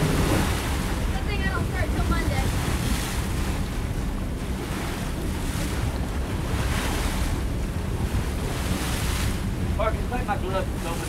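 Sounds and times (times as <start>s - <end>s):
ocean water washing: 0.0s - 11.0s
wind buffeting microphone: 0.0s - 11.0s.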